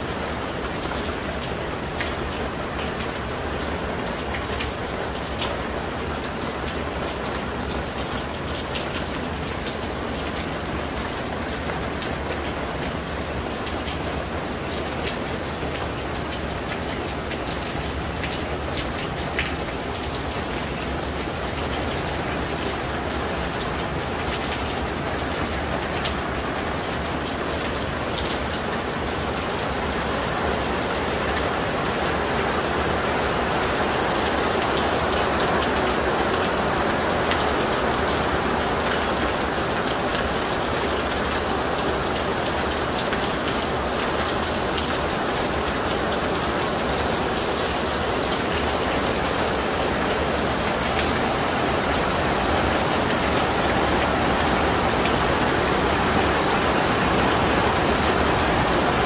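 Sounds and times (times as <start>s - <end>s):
rain on paving and puddles: 0.0s - 59.0s.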